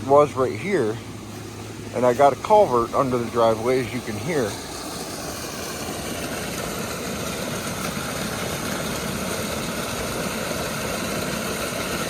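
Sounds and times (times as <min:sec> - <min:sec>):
floodwater rushing through culvert: 0:00.0 - 0:12.0.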